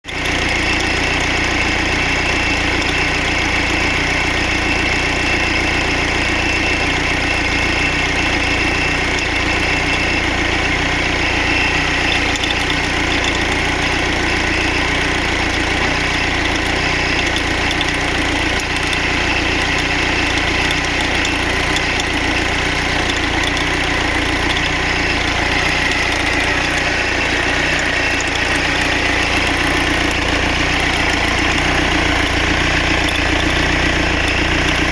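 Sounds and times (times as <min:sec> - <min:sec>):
diesel engine idling with rattle: 0:00.0 - 0:34.9.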